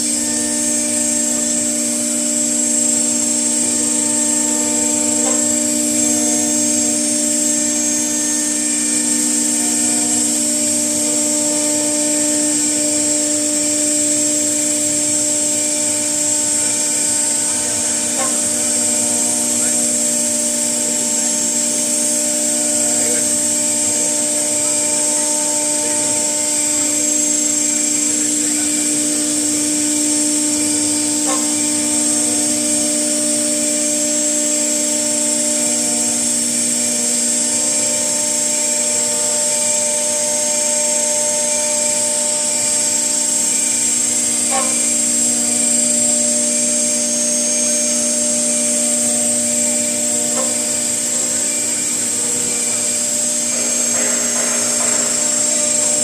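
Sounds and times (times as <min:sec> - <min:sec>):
cnc router whine: 0:00.0 - 0:56.0.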